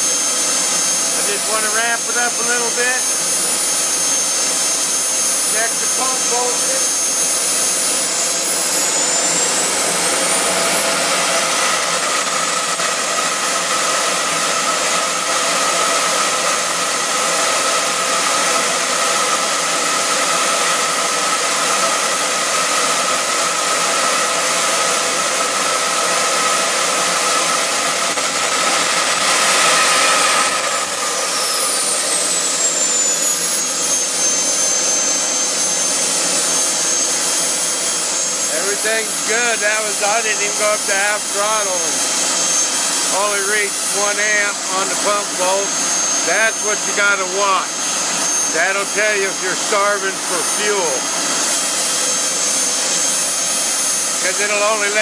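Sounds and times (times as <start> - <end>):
model jet turbine whining: 0.0 - 55.0.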